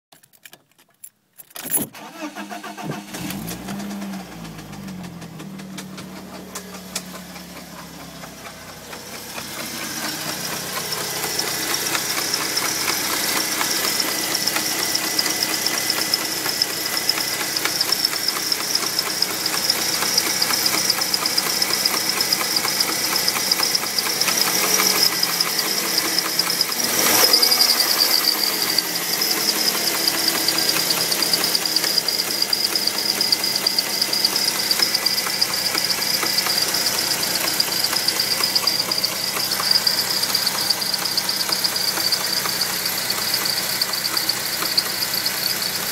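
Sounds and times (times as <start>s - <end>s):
car engine running: 2.0s - 45.9s
high-pitched belt drive whine: 2.1s - 45.9s.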